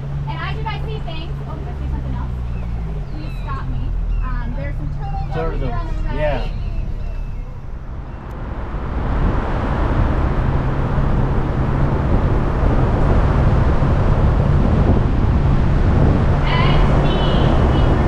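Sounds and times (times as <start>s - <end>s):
boat motor humming: 0.0s - 18.0s
rushing wind: 0.0s - 18.0s.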